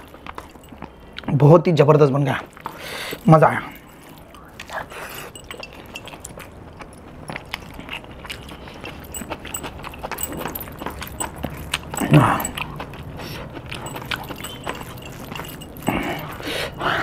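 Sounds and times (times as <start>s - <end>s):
man chewing food: 0.0s - 17.0s.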